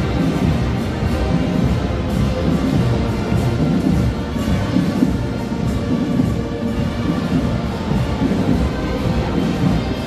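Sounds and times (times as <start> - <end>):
parade music with booming drums: 0.0 - 10.0.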